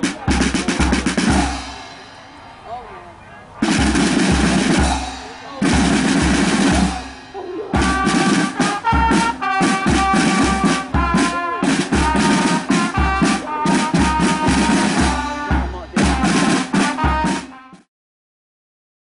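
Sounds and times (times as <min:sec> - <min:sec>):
bass drum beats: 0:00.0 - 0:02.0, 0:03.6 - 0:17.8
snare drums rattling: 0:00.0 - 0:02.1, 0:03.6 - 0:17.9
brass melody: 0:00.0 - 0:17.9.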